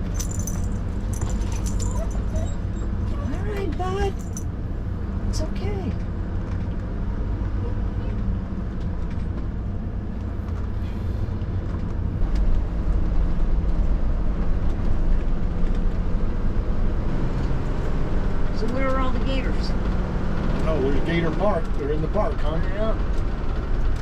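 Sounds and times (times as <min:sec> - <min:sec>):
engine and road rumble in cab: 0:00.0 - 0:24.0.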